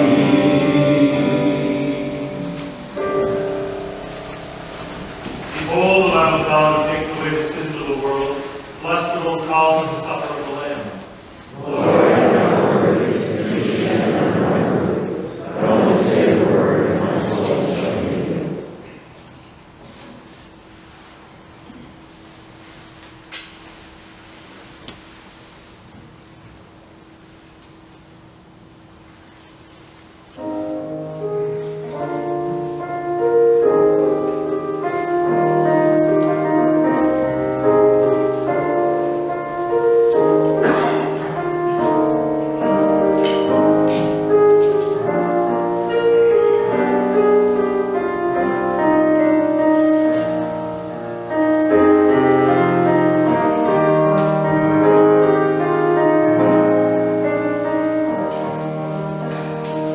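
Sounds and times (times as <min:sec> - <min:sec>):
keyboard chords: 0:00.0 - 0:19.3, 0:30.3 - 0:59.9.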